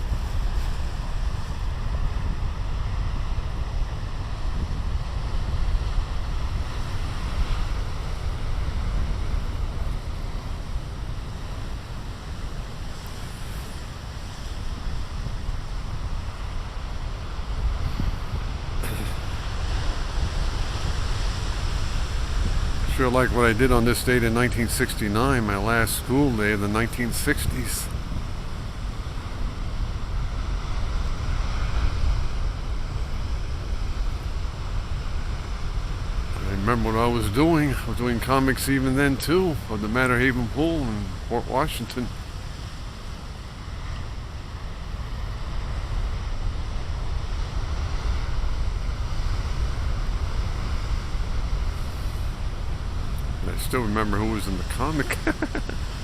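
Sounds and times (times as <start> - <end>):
ocean waves breaking: 0.0 - 56.0
wind rumble on microphone: 0.0 - 56.0.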